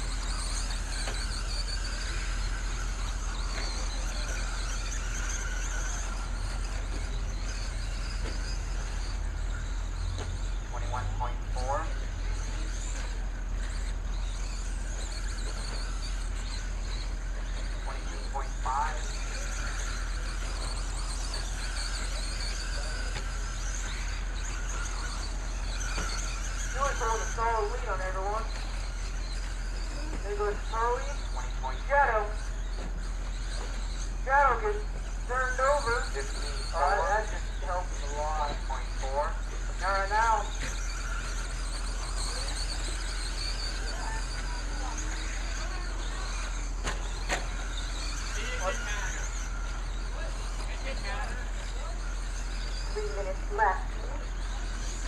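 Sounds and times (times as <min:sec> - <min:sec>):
constant low hum: 0:00.0 - 0:55.0
electric toy truck motors whining: 0:00.0 - 0:55.0
track noise: 0:00.0 - 0:55.0.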